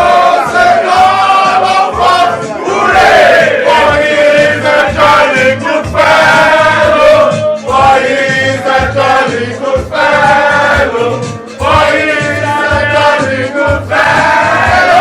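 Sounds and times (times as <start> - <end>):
bass beat: 0.0 - 15.0
music with singing voices: 0.0 - 15.0.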